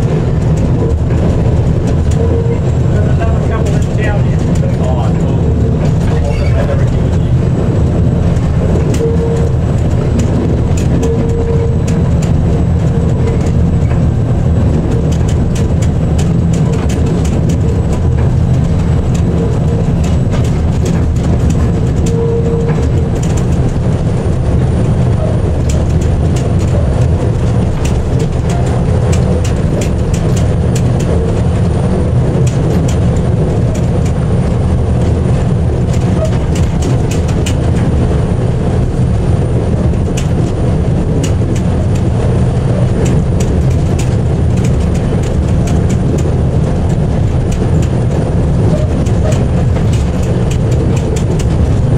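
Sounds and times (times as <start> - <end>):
diesel locomotive drone: 0.0 - 51.9
wheels clicking on track: 0.0 - 51.9.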